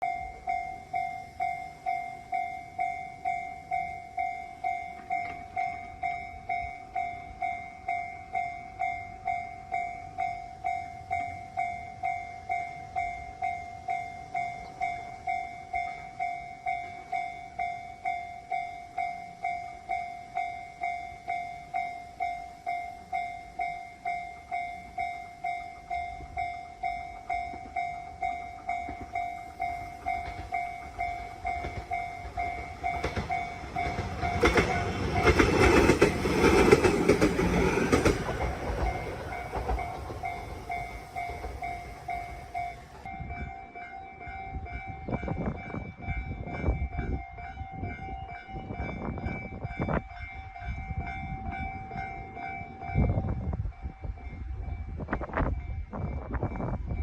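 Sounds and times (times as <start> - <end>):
railroad crossing bell ringing: 0.0 - 57.0.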